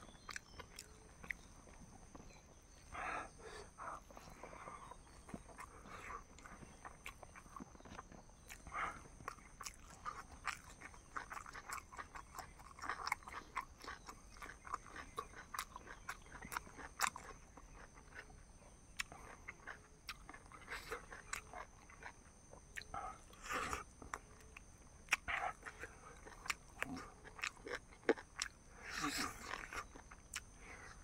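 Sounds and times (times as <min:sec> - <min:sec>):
person chewing and biting: 0:00.0 - 0:01.5, 0:04.8 - 0:18.3, 0:18.9 - 0:22.9, 0:23.7 - 0:30.6.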